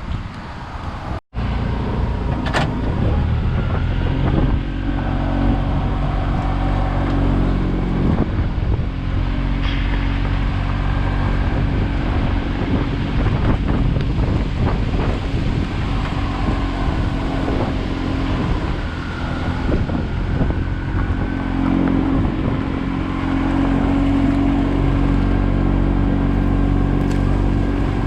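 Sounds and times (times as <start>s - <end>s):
wind noise on microphone: 0.0s - 28.0s
vehicle engine running: 1.3s - 28.0s.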